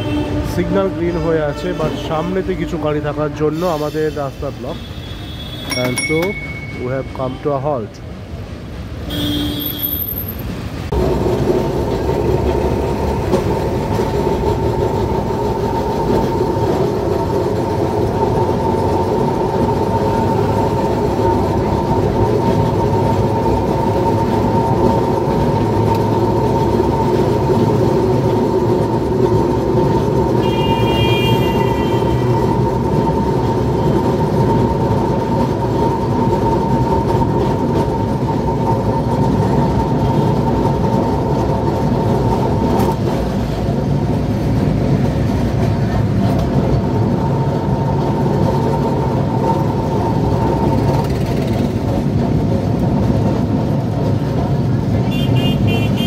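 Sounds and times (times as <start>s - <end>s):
wheels rumbling on rails: 0.0s - 56.0s.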